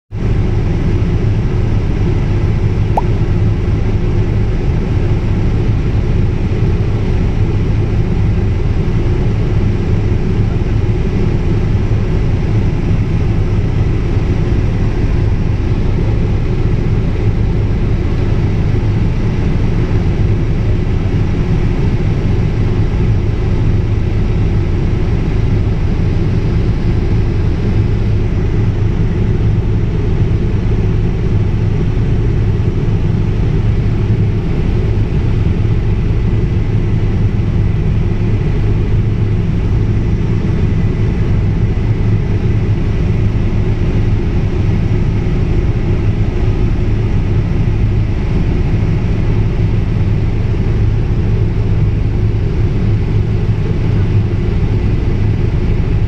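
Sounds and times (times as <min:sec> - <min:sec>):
helicopter engine and rotor drone: 0:00.1 - 0:56.0.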